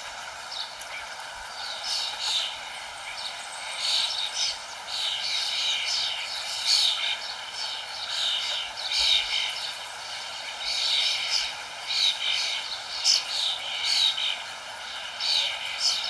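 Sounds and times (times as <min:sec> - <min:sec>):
birds chirping: 0:00.0 - 0:16.0
steady background hiss: 0:00.0 - 0:16.0.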